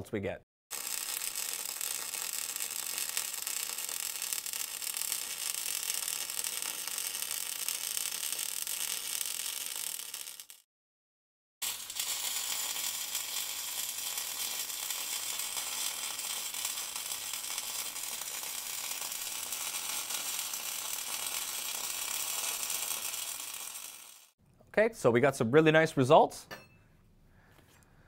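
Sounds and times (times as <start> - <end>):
brief welding arc: 0.7 - 10.7, 11.6 - 24.4
welding arc sizzling and crackling: 0.7 - 10.7, 11.6 - 24.4.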